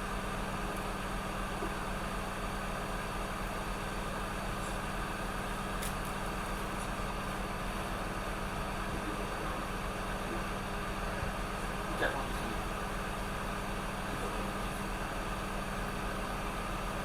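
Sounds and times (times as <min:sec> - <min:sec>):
hot air blower hiss and hum: 0:00.0 - 0:17.0.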